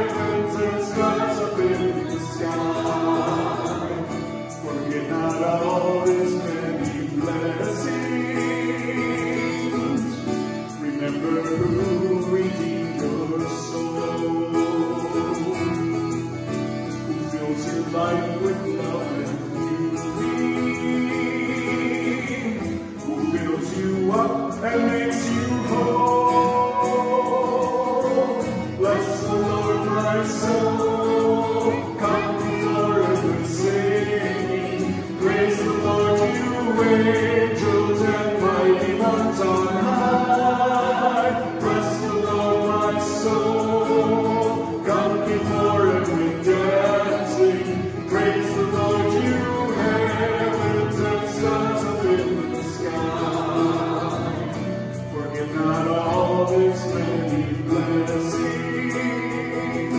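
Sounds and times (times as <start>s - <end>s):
acoustic guitar: 0.0s - 59.9s
man and woman singing: 0.0s - 59.9s.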